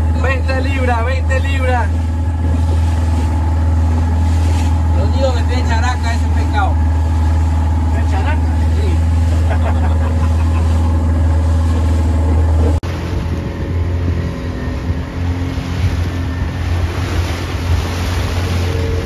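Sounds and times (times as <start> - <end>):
boat motor running: 0.0 - 19.0
water and wind rushing: 0.0 - 19.0.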